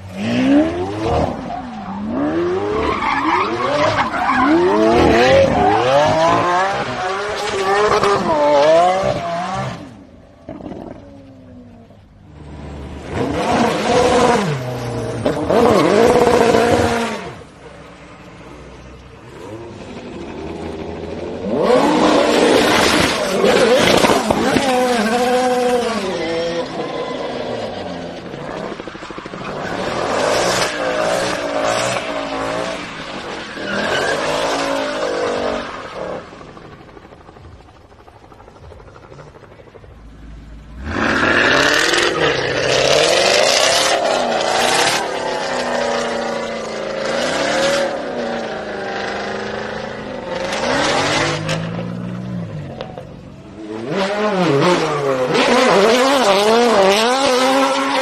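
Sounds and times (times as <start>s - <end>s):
racing car engines revving: 0.0s - 37.4s, 38.9s - 58.0s.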